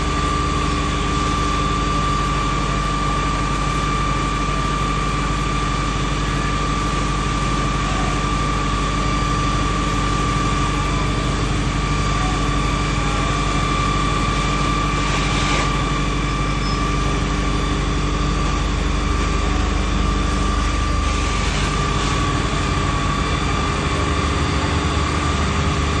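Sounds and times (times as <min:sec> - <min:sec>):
engine-like drone: 0:00.0 - 0:26.0
high whine: 0:00.0 - 0:26.0.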